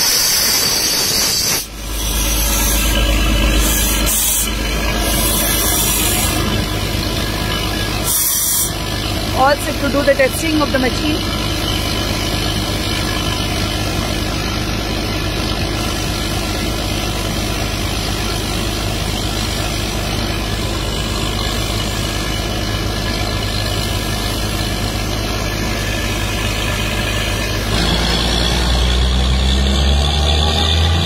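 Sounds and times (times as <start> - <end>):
drilling rig engine running: 0.0 - 31.0.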